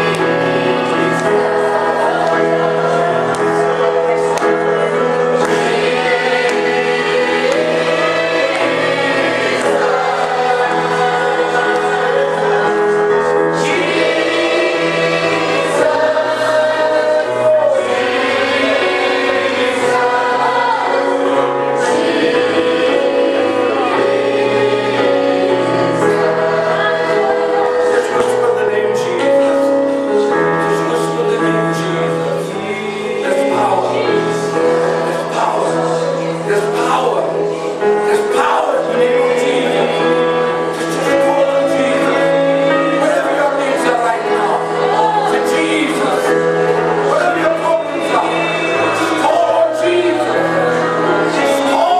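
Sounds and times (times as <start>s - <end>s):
choir singing gospel: 0.0s - 51.9s
sustained instrumental chords: 0.0s - 51.9s.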